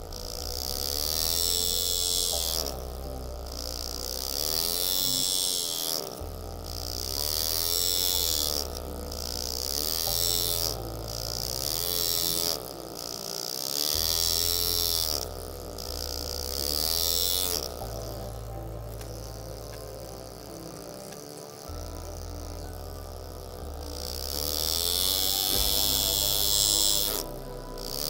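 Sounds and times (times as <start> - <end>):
pneumatic engraver buzzing: 0.0 - 28.0.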